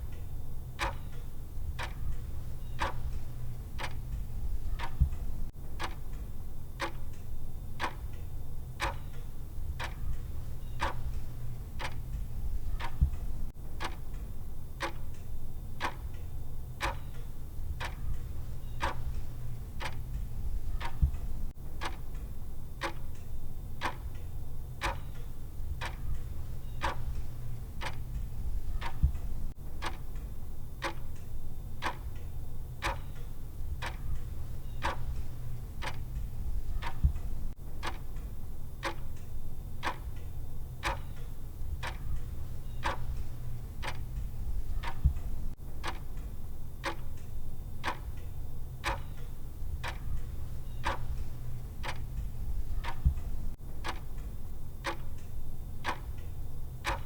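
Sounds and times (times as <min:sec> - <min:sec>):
low steady hum: 0:00.0 - 0:57.0
timer ticking: 0:00.0 - 0:57.0.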